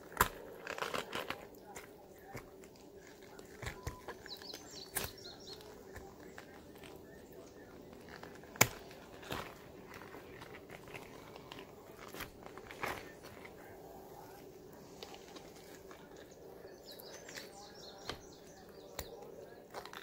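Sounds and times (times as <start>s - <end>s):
cabbage leaves crinkling: 0.0s - 20.0s.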